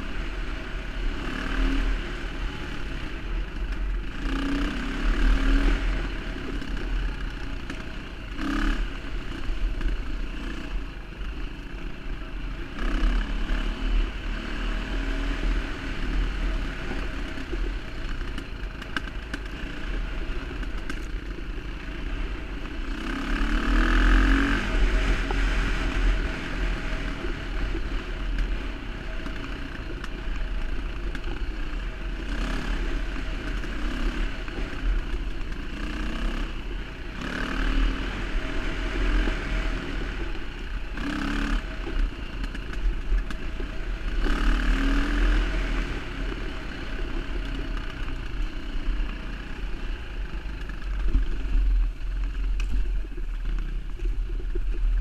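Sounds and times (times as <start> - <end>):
dirt bike engine rumbling: 0.0 - 55.0.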